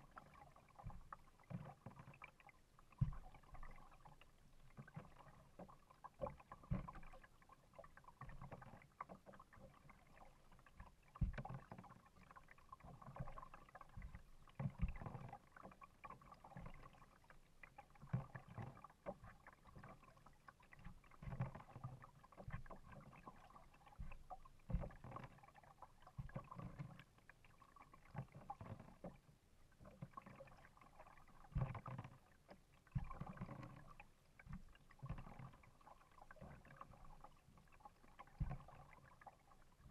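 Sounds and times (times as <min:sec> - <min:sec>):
paddle strokes in water: 0:00.0 - 0:39.9
water sloshing against hull: 0:00.0 - 0:39.9.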